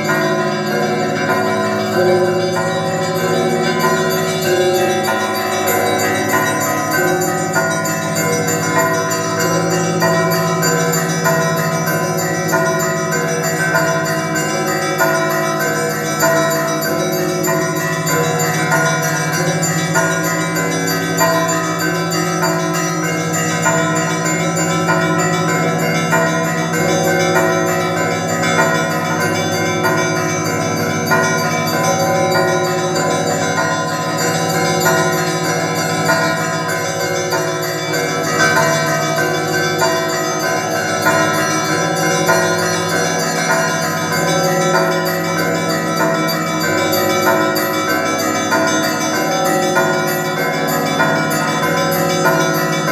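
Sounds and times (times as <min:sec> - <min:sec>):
low hum of a large bell: 0:00.0 - 0:52.9.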